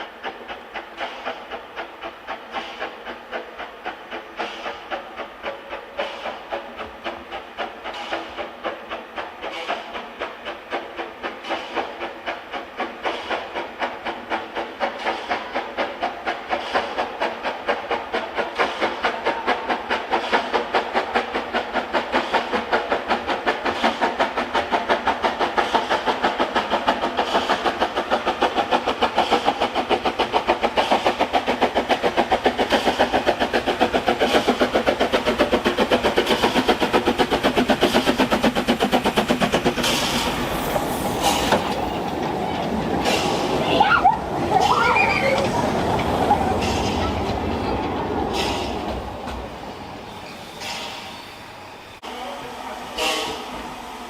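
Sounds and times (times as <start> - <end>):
steam locomotive exhaust chuffing: 0.0 - 54.0.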